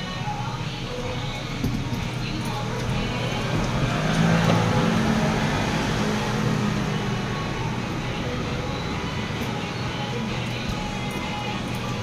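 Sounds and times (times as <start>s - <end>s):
noisy background: 0.0s - 12.0s.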